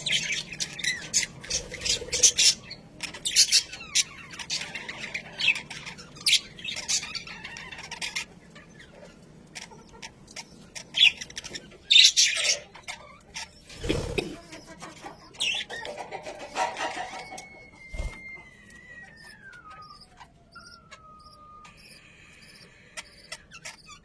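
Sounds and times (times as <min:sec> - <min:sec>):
budgerigars chirping and squawking: 0:00.0 - 0:24.0.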